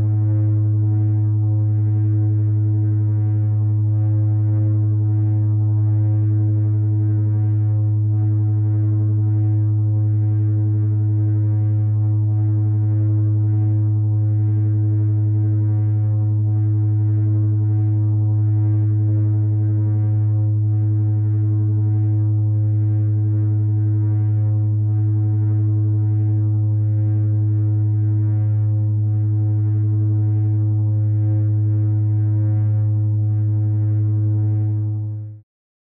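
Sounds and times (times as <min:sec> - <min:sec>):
low droning feedback tone: 0:00.0 - 0:35.4.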